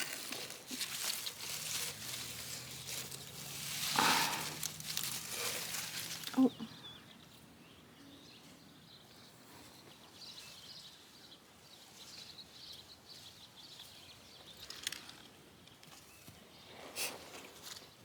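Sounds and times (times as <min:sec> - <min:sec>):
distant birds chirping: 0:00.0 - 0:16.8.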